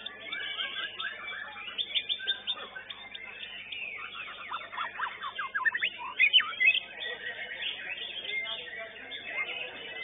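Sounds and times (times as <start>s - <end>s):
bird song whistles: 0.0s - 10.0s.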